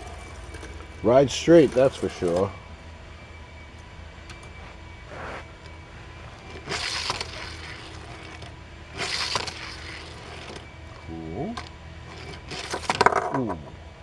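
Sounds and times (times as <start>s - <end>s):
toy car rolling on hard surface: 0.0s - 14.0s.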